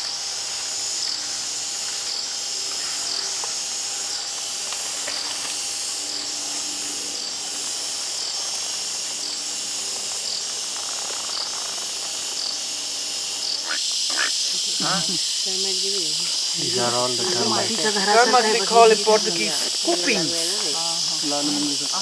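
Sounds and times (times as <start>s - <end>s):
fainter lower insect calls: 0.0s - 22.0s
pulsing shrill insect buzz: 0.0s - 22.0s.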